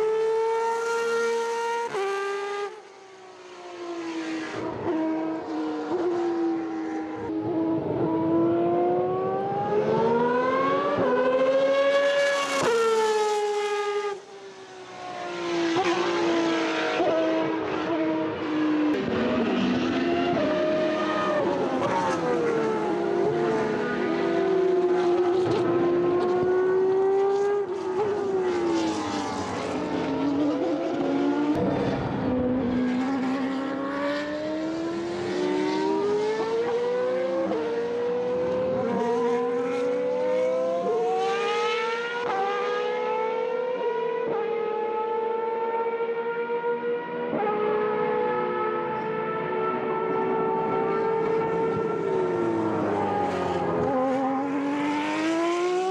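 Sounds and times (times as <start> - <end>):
race car engines passing: 0.0 - 55.9.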